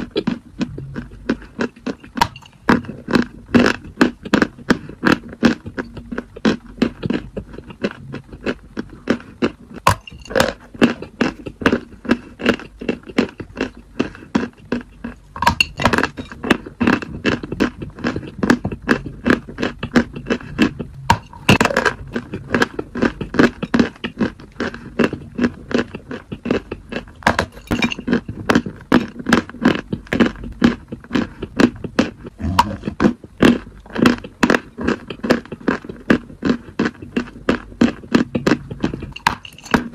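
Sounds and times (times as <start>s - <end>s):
chalk crunching while chewed: 0.0s - 39.9s.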